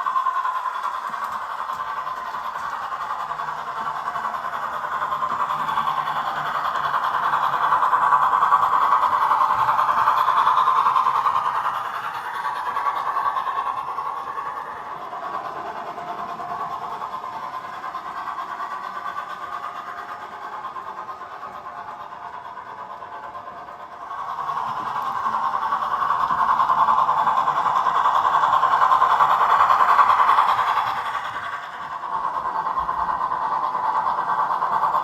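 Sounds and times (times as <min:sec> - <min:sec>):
model locomotive running on track: 0:00.0 - 0:35.0.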